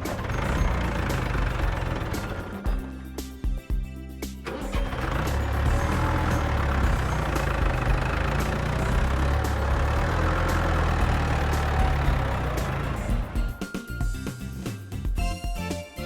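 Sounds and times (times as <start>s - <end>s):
heavy diesel engine running: 0.0s - 3.3s, 4.4s - 14.6s.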